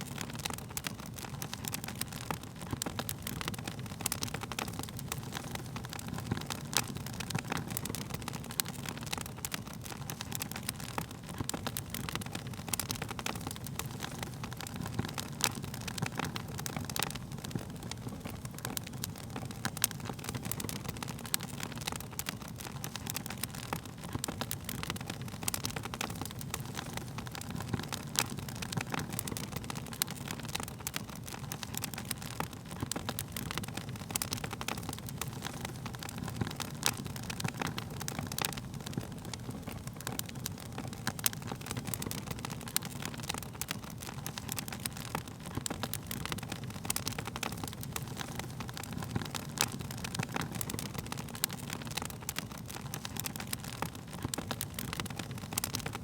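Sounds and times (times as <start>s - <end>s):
burning wood crackling and popping: 0.0s - 56.0s
low rumble of flames: 0.0s - 56.0s.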